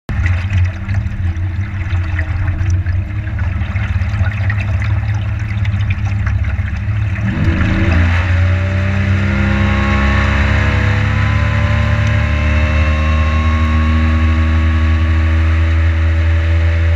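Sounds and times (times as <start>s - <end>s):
boat motor running: 0.0s - 16.9s
water splashing along hull: 0.0s - 16.9s.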